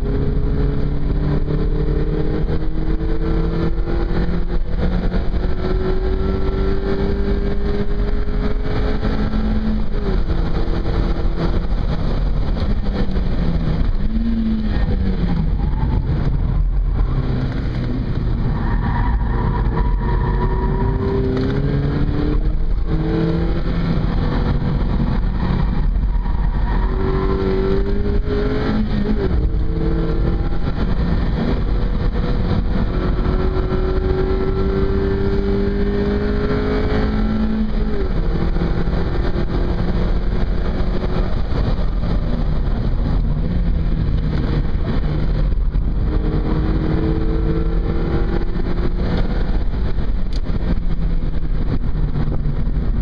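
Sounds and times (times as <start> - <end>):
car engine at full throttle: 0.0 - 53.0
road and wind noise: 0.0 - 53.0.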